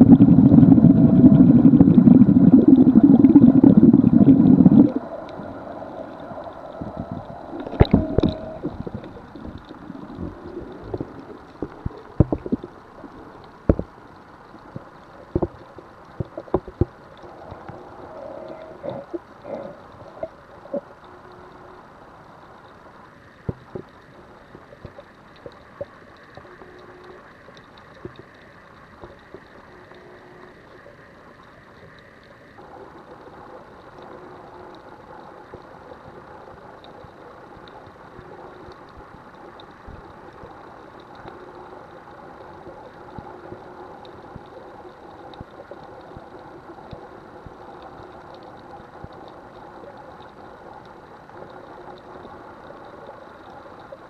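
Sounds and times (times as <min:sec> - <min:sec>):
underwater engine hum: 0:00.0 - 0:54.0.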